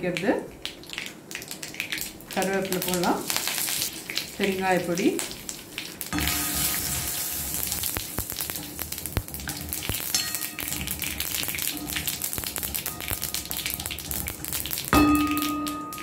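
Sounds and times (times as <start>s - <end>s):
seeds spluttering in hot oil: 0.1s - 16.0s.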